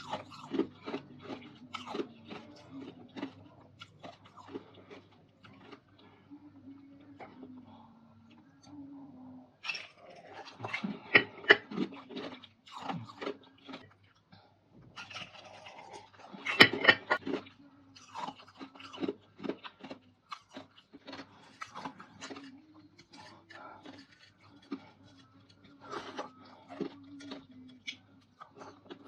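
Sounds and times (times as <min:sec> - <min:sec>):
crunching and chewing dried food: 0:00.0 - 0:29.0
faint steady hum: 0:00.0 - 0:29.0.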